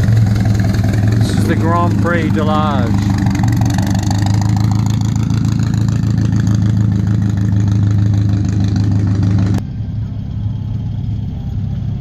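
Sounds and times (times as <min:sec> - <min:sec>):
racing car engine droning: 0:00.0 - 0:12.0.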